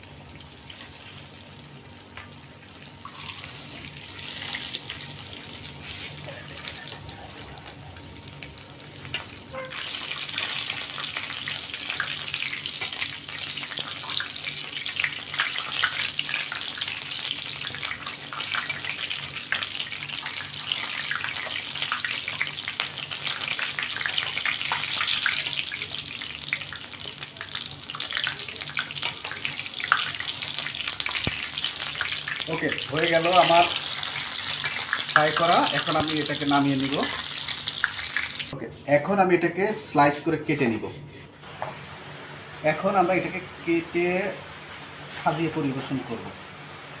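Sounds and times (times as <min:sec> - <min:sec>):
chicken sizzling in hot oil: 0:00.0 - 0:38.6.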